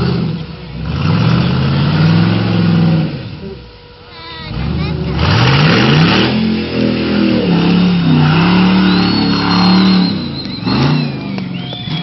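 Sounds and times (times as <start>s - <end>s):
engine revving hard: 0.0s - 3.4s, 4.5s - 12.0s.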